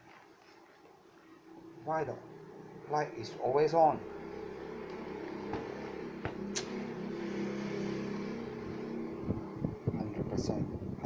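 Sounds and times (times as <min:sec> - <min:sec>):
steady machine hum: 0:01.0 - 0:11.0.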